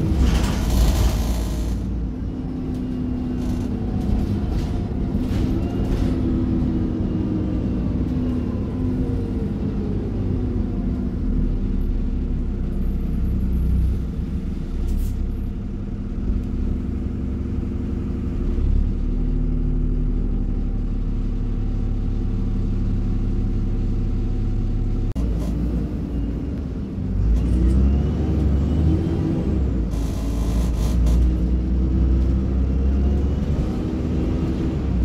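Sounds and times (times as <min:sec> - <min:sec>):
bus engine running: 0:00.0 - 0:35.0.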